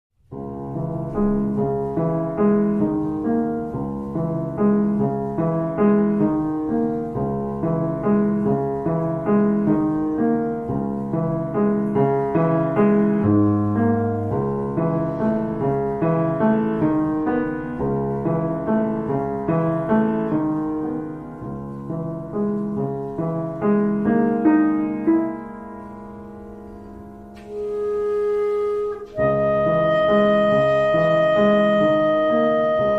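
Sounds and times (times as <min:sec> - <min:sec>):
gentle solo piano: 0:00.2 - 0:32.9.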